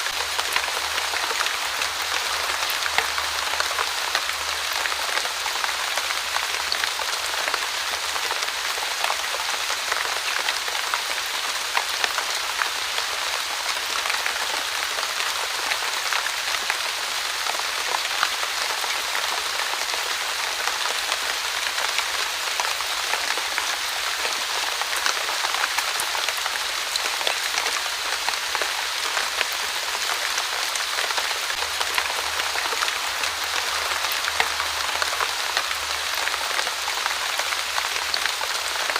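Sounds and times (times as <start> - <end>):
light rain: 0.0 - 38.9.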